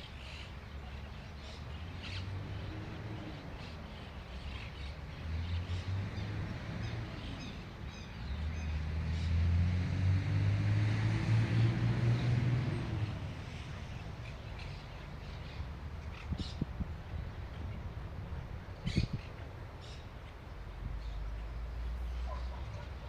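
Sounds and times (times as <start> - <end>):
faint birds chirping: 0.0 - 23.0
vehicle passing by: 1.4 - 19.2, 19.8 - 23.0.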